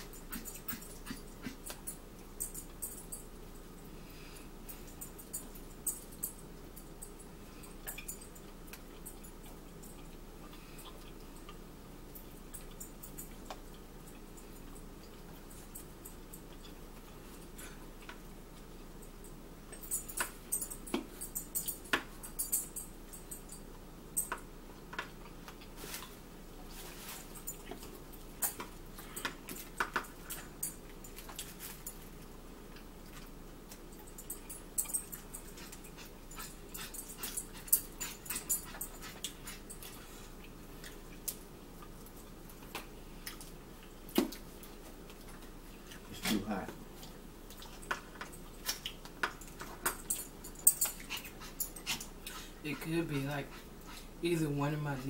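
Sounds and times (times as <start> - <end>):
chewing: 0.0 - 22.2, 23.2 - 54.2.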